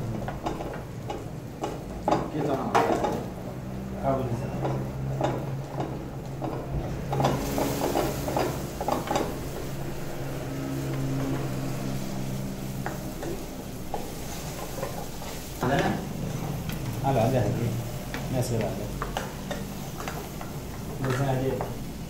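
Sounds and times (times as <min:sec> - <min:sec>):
oil sizzling: 0:00.0 - 0:22.0.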